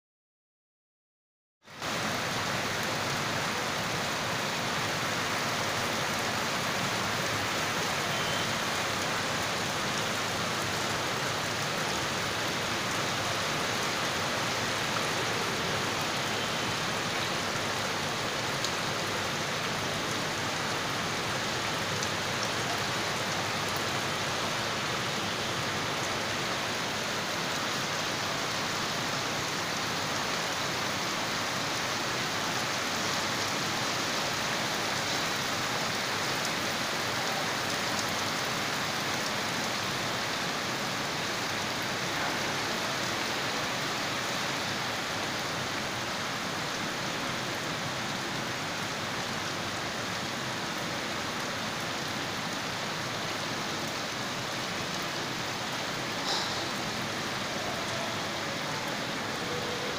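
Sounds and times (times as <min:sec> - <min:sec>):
heavy rain on standing water: 0:01.6 - 0:59.9.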